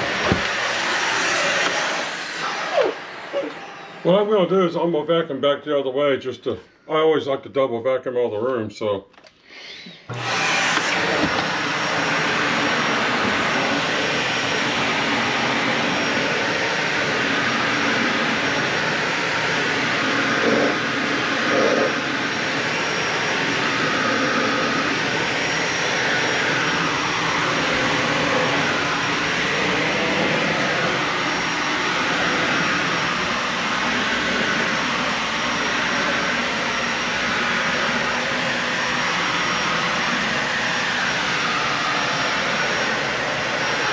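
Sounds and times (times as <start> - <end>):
upright vacuum cleaner running: 0.0 - 4.9, 9.4 - 43.9.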